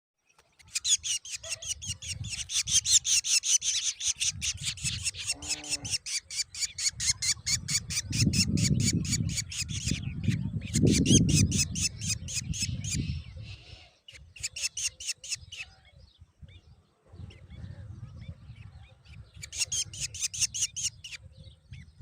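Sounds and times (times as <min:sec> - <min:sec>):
chicks begging with raspy cheeps: 0:00.6 - 0:16.0, 0:16.7 - 0:22.0.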